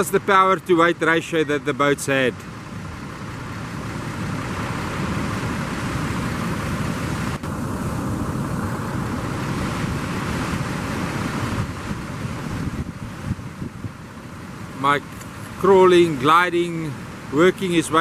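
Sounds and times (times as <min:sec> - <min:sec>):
surf breaking: 0:02.4 - 0:18.0
wind buffeting microphone: 0:02.4 - 0:18.0.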